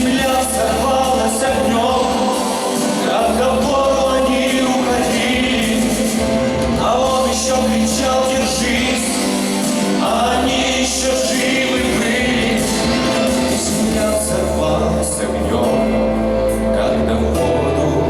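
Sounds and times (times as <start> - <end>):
instrumental backing music: 0.0 - 18.0
man singing: 0.0 - 18.0.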